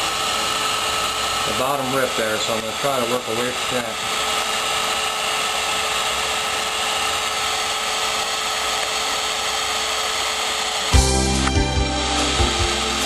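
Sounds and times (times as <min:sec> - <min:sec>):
hot air gun blowing: 0:00.0 - 0:13.0.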